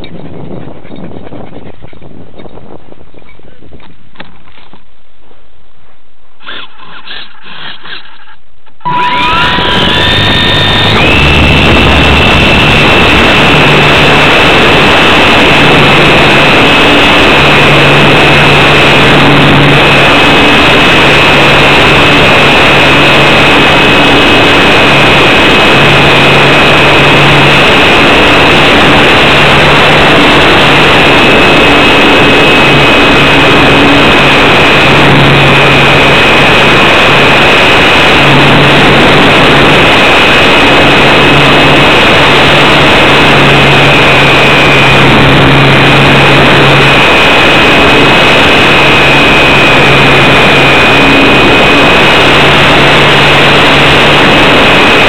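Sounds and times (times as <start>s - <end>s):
electric motor whine: 8.8s - 55.0s
rushing air noise: 8.8s - 55.0s.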